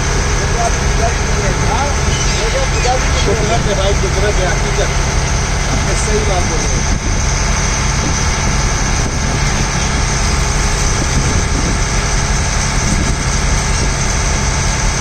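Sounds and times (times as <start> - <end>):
boat engine droning: 0.0 - 15.0
wind and water hiss: 0.0 - 15.0.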